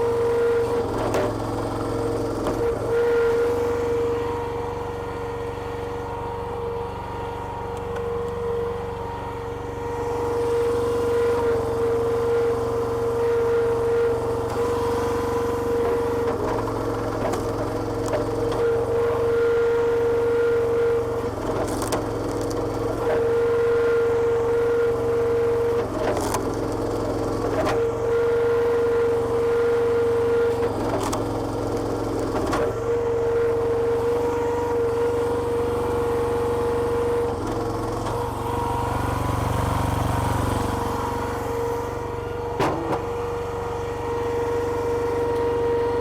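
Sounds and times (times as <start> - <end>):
hydraulic whine: 0.0 - 6.8, 7.7 - 46.0.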